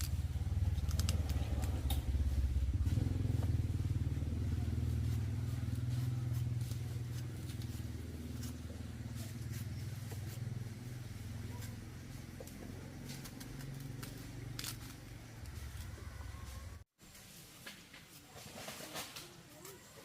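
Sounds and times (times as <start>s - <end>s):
small motor engine running: 0.0s - 16.8s.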